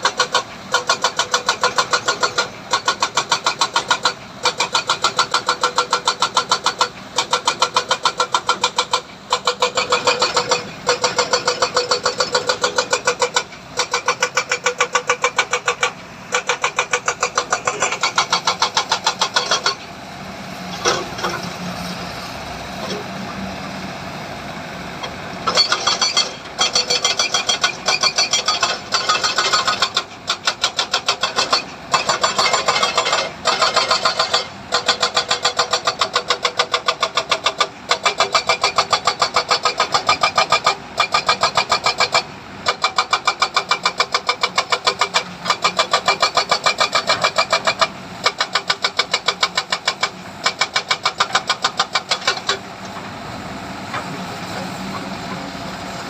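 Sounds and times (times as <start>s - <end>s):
machinery engine chugging: 0.0s - 56.0s.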